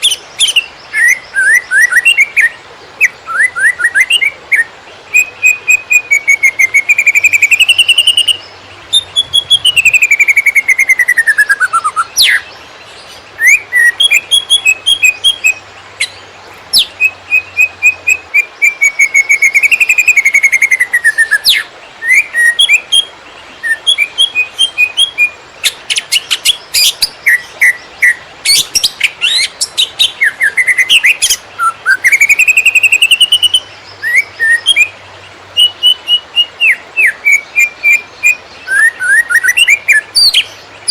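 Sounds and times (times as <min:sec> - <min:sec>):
bird singing chirps and whistles: 0:00.0 - 0:12.6, 0:13.4 - 0:35.0, 0:35.6 - 0:40.9.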